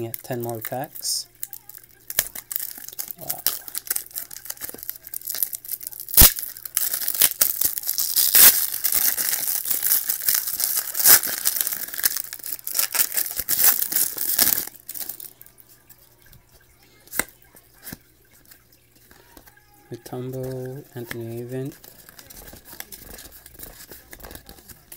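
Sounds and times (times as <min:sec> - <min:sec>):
wrappers tearing and crinkling: 0:00.0 - 0:15.5, 0:17.1 - 0:24.9.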